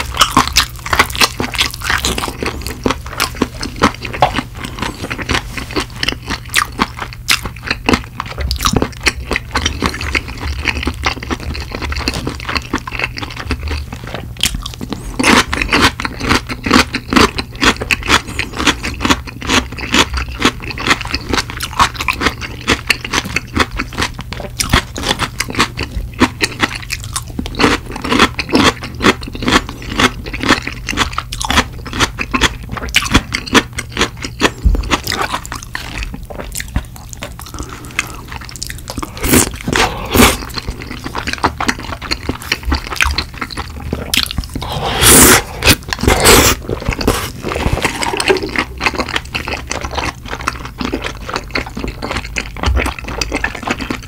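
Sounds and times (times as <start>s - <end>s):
chewing crispy fried chicken: 0.0s - 54.0s.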